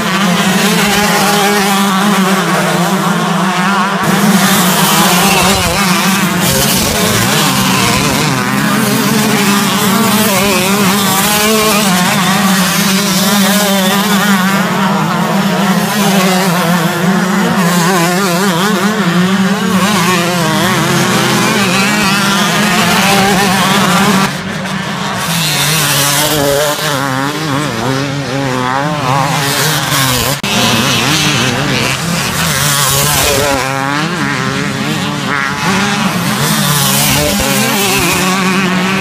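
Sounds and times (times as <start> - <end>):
motocross bikes revving: 0.0 - 39.0.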